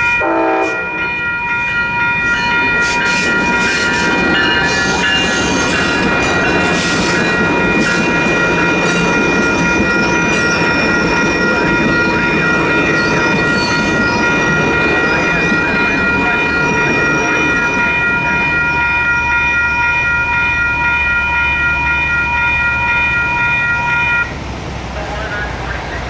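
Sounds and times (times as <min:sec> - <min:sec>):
electronic crossing bells ringing: 0:00.0 - 0:24.3
train rumbling on rails: 0:00.0 - 0:26.0.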